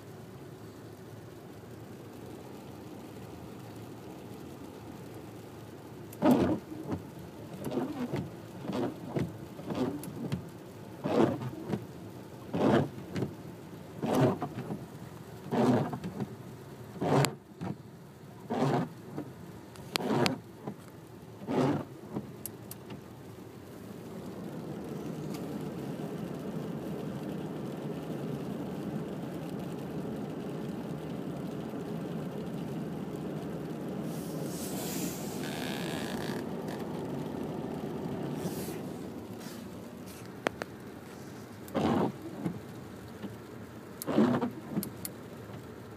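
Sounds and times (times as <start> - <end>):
wiper blades on wet windshield: 0.1 - 45.9.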